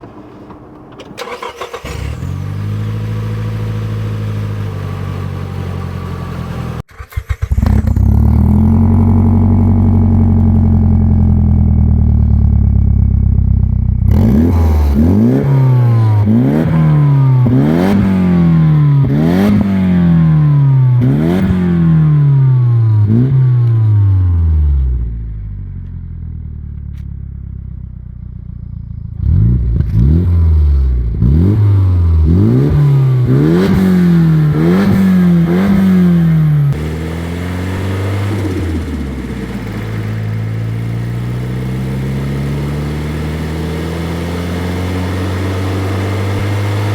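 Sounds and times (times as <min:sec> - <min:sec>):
car engine starting and revving: 0:00.0 - 0:27.0, 0:28.7 - 0:46.9.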